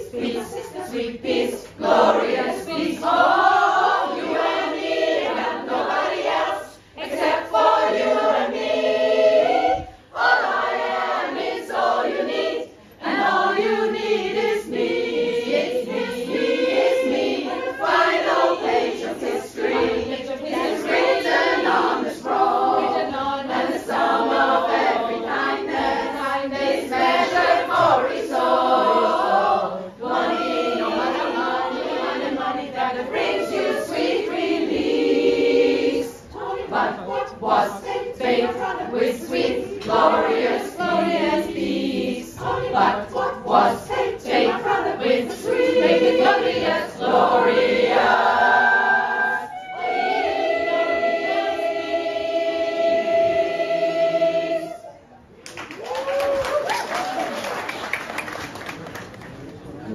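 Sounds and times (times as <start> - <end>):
women's choir singing in harmony: 0.0 - 55.8.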